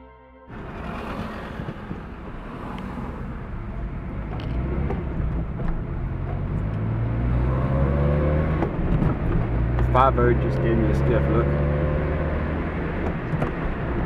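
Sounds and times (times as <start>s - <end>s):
car engine hum: 0.5s - 14.0s.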